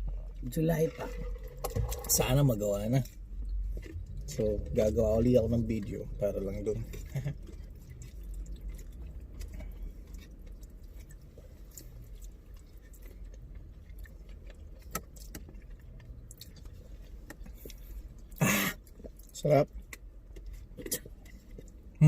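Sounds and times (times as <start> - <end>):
low steady rumble: 0.0 - 22.0
quiet chewing: 3.0 - 22.0.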